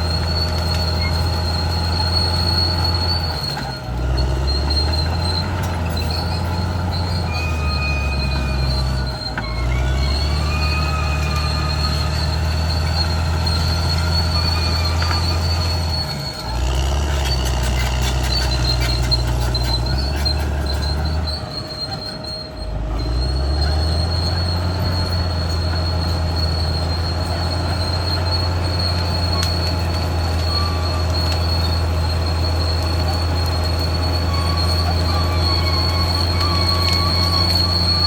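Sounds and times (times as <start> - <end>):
bulldozer diesel engine: 0.0 - 38.0
steel grinding squeal: 0.0 - 38.0.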